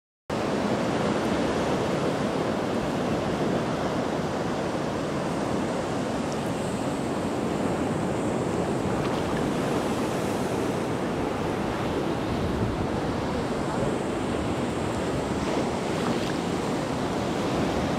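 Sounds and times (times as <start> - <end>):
ocean surf on beach: 0.3 - 17.9
wind on microphone: 0.4 - 17.9.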